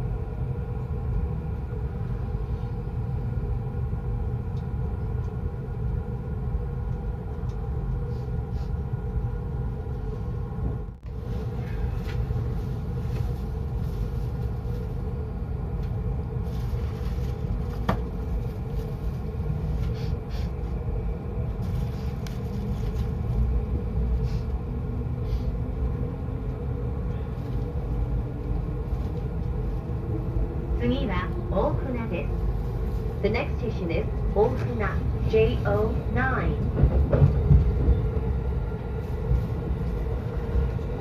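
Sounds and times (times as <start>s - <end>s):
electric train rumble: 0.0s - 41.0s.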